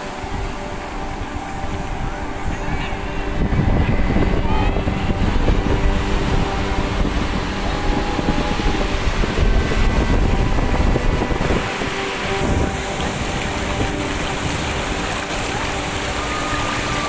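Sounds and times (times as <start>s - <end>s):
sea surf breaking: 0.0s - 17.0s
wind buffeting microphone: 0.0s - 17.0s.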